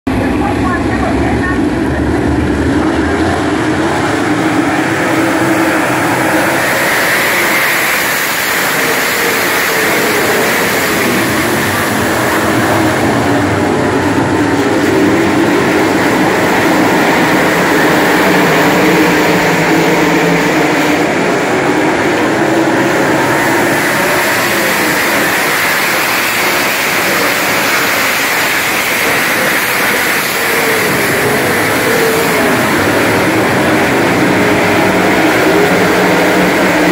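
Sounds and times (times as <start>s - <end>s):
racing car engines roaring: 0.1s - 36.9s.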